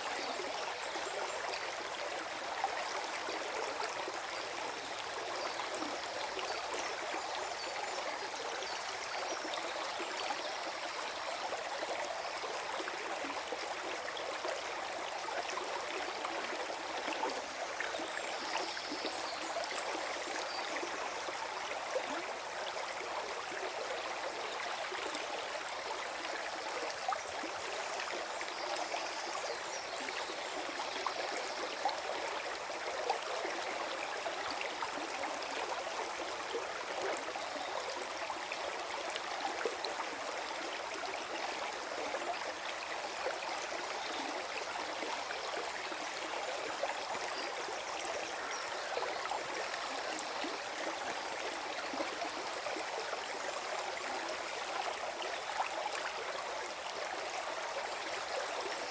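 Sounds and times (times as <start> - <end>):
stream gurgling over stones: 0.0 - 58.9.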